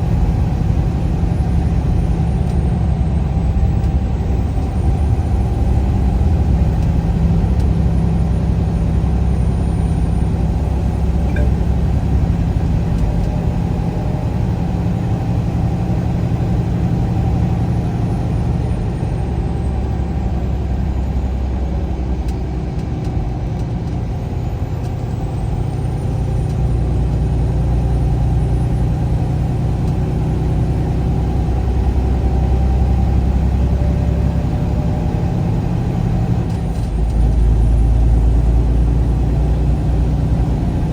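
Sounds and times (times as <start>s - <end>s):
road noise: 0.0s - 40.9s
vehicle engine drone: 0.0s - 40.9s.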